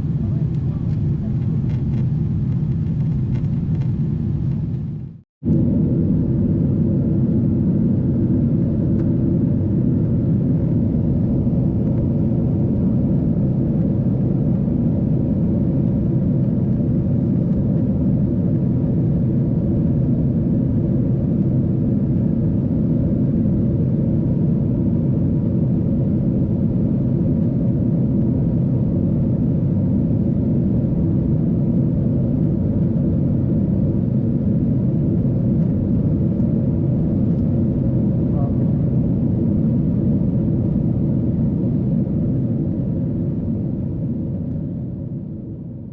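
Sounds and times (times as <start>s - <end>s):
airplane cabin roar: 0.0s - 45.9s.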